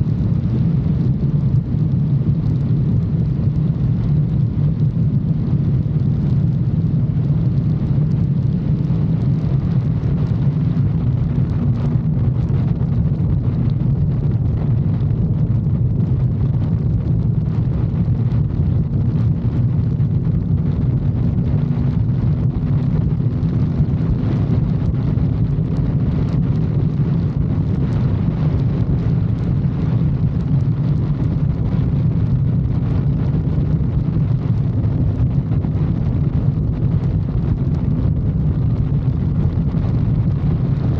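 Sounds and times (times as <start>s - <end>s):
motorcycle engine drone: 0.0s - 40.9s
wind rushing over microphone: 0.0s - 40.9s.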